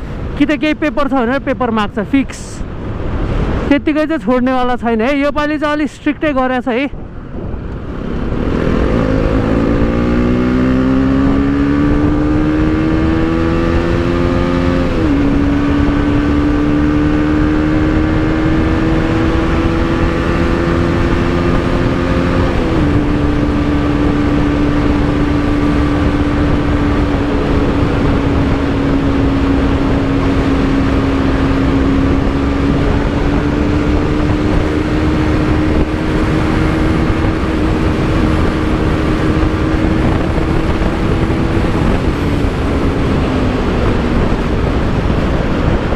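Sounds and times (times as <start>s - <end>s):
steady rushing noise: 0.0s - 45.9s
motorcycle engine accelerating: 7.6s - 45.9s.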